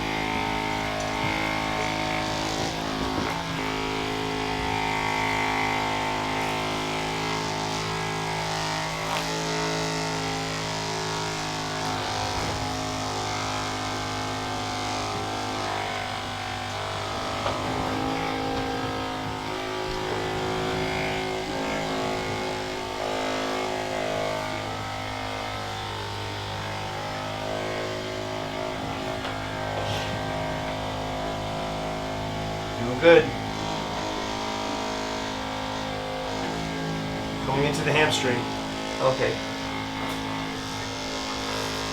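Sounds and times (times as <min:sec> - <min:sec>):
massage gun motor buzz: 0:00.0 - 0:41.9.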